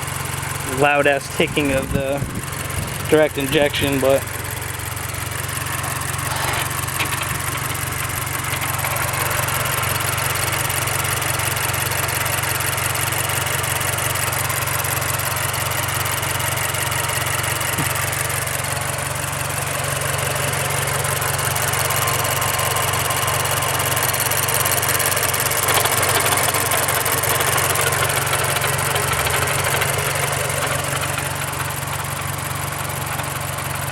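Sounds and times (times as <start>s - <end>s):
car engine idling: 0.0s - 33.9s
fuel injector ticking: 0.1s - 33.9s.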